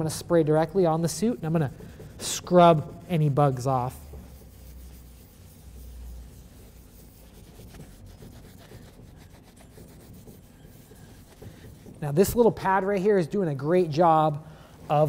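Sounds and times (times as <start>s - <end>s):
pad rubbing leather: 0.3s - 12.9s.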